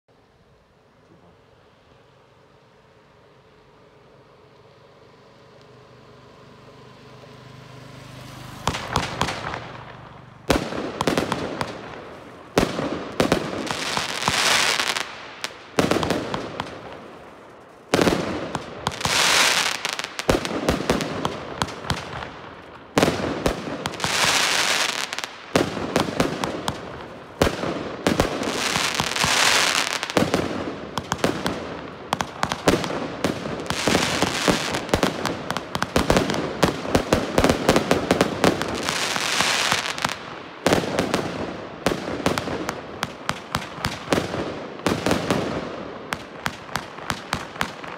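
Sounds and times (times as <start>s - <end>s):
fireworks launch bangs: 8.6s - 47.9s.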